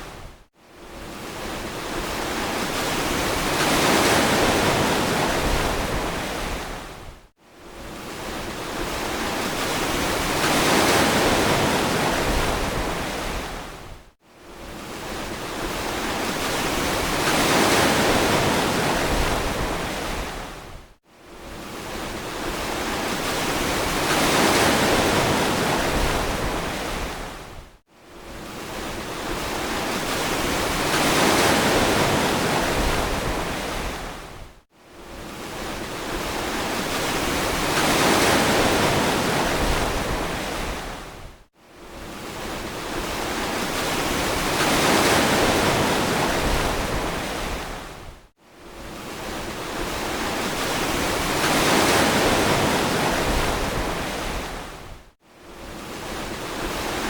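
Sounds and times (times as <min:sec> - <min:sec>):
ocean waves washing onto beach: 0:00.0 - 0:07.1, 0:07.7 - 0:13.9, 0:14.5 - 0:27.6, 0:28.2 - 0:57.0.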